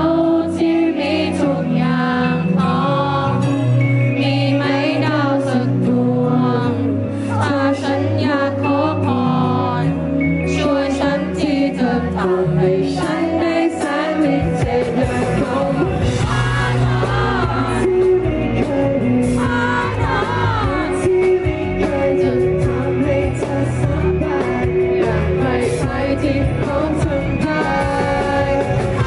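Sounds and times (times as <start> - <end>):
live band playing: 0.0 - 29.0
man singing into a microphone: 0.0 - 29.0.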